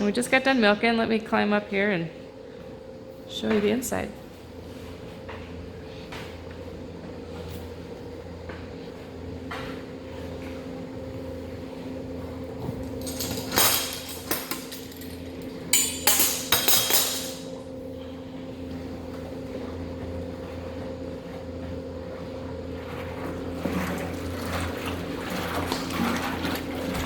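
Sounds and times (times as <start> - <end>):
steady machinery hum: 0.0 - 27.0.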